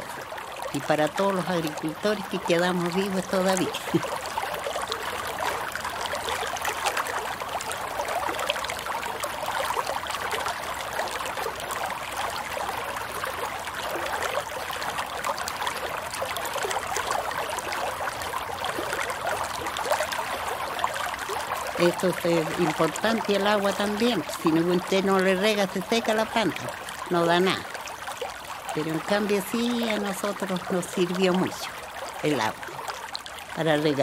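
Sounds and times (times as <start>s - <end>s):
stream flowing and babbling: 0.0s - 34.0s.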